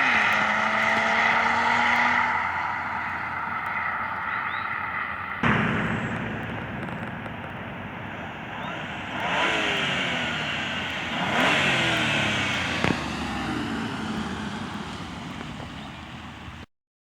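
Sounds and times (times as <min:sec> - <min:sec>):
car engine accelerating hard: 0:00.0 - 0:16.7.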